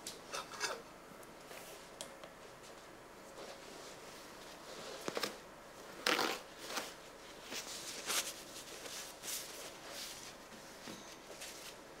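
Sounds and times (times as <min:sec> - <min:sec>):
rustling and scraping handling noises: 0:01.5 - 0:11.9.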